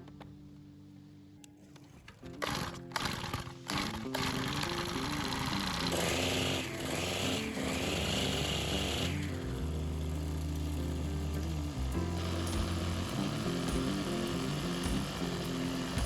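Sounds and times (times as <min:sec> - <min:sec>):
background music: 0:02.2 - 0:16.0
brush cutter engine running: 0:02.4 - 0:16.0.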